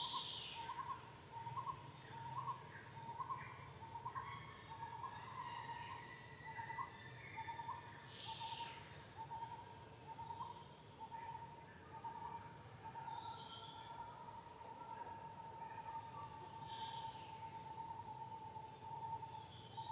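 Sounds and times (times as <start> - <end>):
forest background noise: 0.0 - 19.9.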